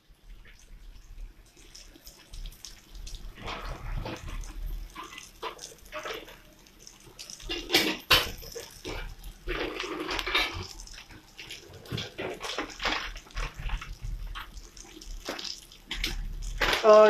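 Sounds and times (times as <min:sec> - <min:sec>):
oil sizzling and popping: 0:00.0 - 0:17.0.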